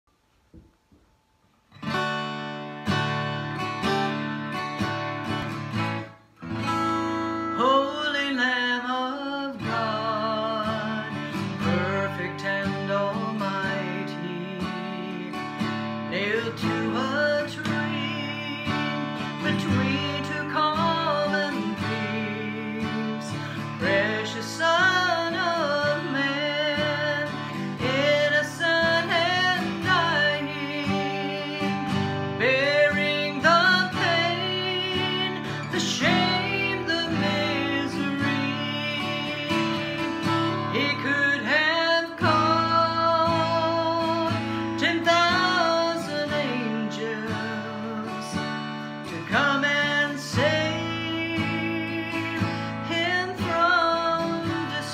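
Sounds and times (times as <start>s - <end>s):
acoustic guitar strumming chords: 1.7s - 54.9s
woman singing: 7.5s - 15.4s, 16.1s - 54.9s.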